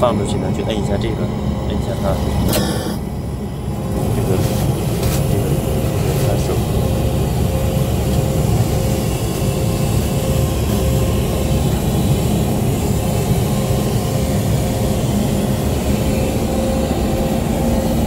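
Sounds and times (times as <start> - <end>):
aircraft cabin drone: 0.0 - 18.0
constant hum: 0.0 - 18.0.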